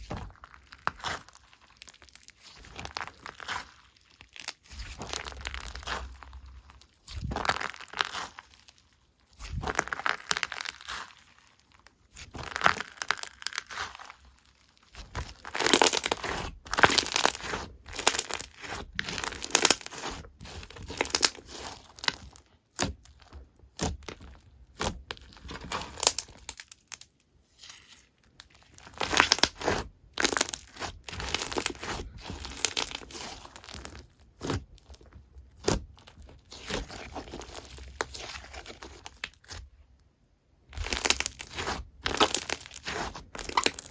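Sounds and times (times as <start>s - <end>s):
slime squished by hand: 0.0s - 40.0s, 40.6s - 43.9s.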